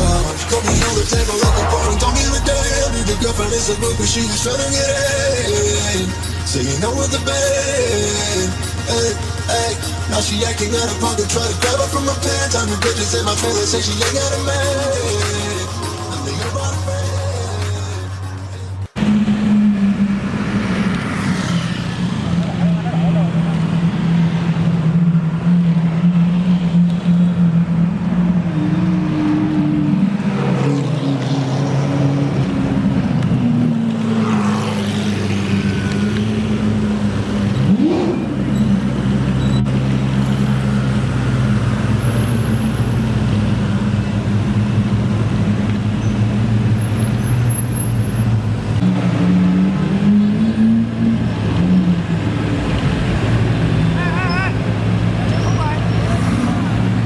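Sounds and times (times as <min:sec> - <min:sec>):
engine revving: 0:00.0 - 0:16.6, 0:18.9 - 0:57.0
car engines droning: 0:00.0 - 0:57.0.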